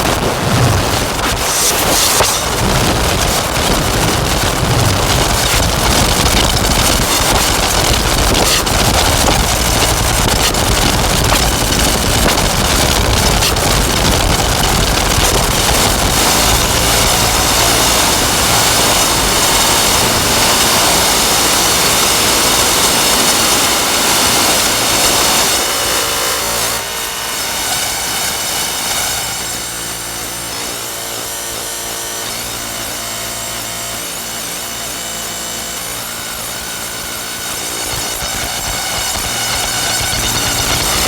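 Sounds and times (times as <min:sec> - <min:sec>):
distorted electronic noise drone: 0:00.0 - 0:41.0
layered drone of held tones: 0:00.0 - 0:41.0.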